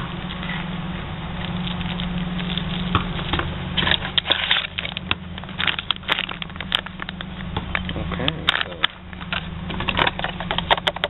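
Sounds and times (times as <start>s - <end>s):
steady low hum: 0.0s - 11.0s
plastic packaging crinkling and clicking: 1.4s - 11.0s.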